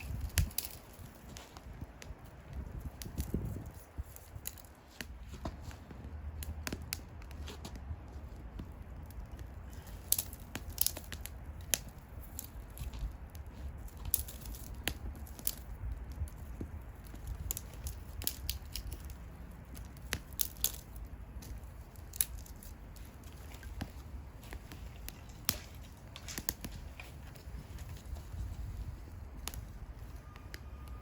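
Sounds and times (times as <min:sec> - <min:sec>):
bonfire crackling: 0:00.0 - 0:31.0.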